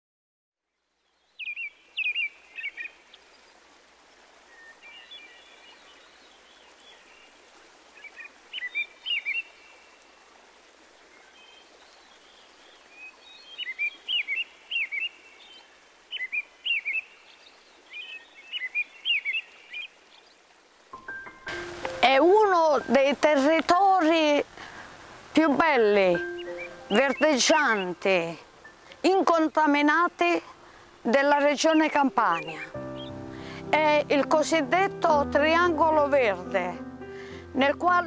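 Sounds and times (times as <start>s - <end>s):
faint outdoor hiss: 0.6s - 38.0s
songbird chirping: 0.7s - 10.3s, 10.9s - 24.6s, 25.3s - 38.0s.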